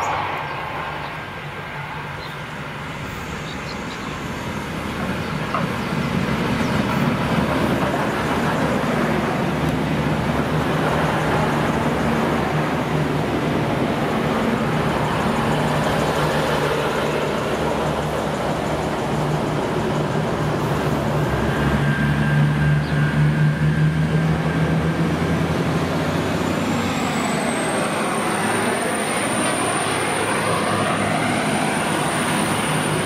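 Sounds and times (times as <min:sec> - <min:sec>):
diesel train engines droning: 0:00.0 - 0:33.0.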